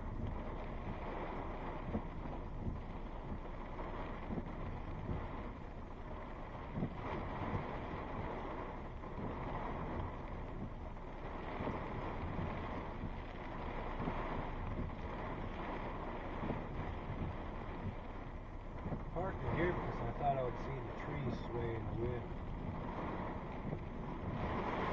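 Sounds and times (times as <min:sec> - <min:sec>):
gusty wind buffeting microphone: 0:00.0 - 0:24.9.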